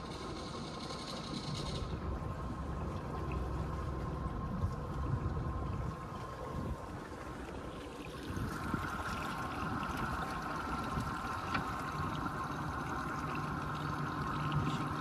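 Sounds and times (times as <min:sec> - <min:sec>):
boat motor hum: 0:00.0 - 0:15.0
water rushing along hull: 0:00.0 - 0:15.0.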